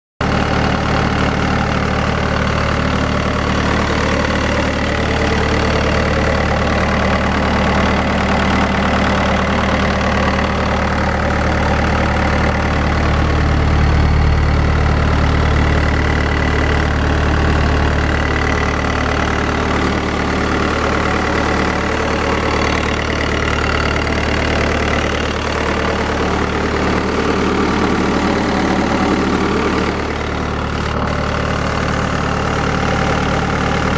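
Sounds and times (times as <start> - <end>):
diesel engine idling: 0.2 - 33.9.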